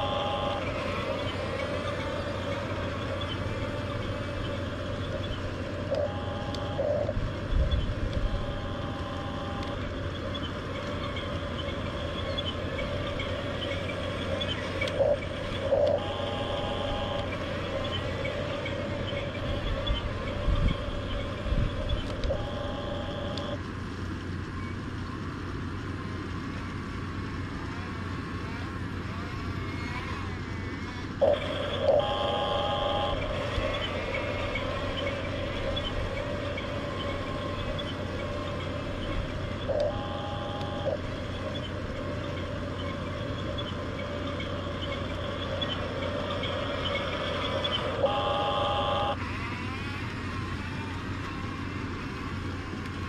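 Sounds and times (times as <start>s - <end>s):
electric motors whining: 0.0s - 23.7s, 27.4s - 53.0s.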